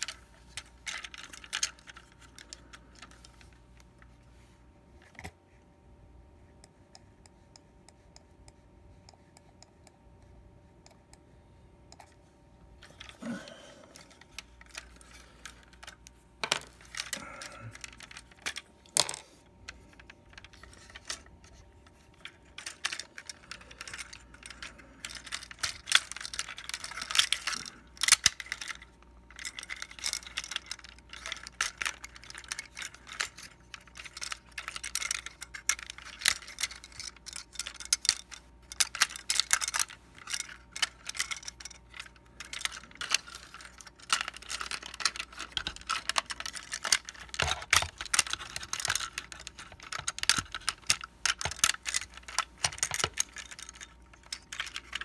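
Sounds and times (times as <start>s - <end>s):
plastic toy parts clicking: 0.0s - 4.1s, 12.8s - 55.0s.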